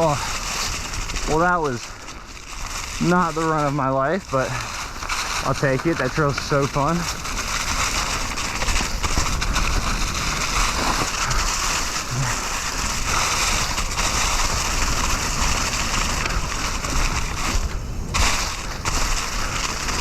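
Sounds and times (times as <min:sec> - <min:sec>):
bike tyres rolling over dirt: 0:00.0 - 0:20.0
wind across microphone: 0:00.0 - 0:20.0.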